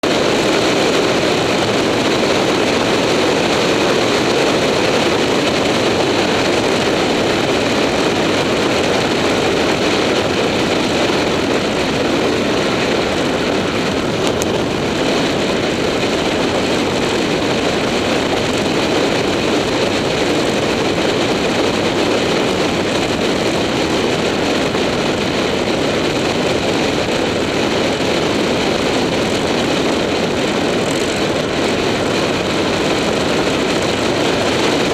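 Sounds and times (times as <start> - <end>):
motorcycle engine: 0.0 - 34.9
wind rushing over microphone: 0.0 - 34.9.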